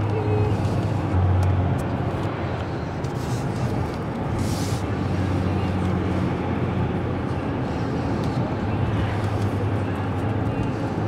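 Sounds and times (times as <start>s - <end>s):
car engine hum: 0.0s - 11.0s.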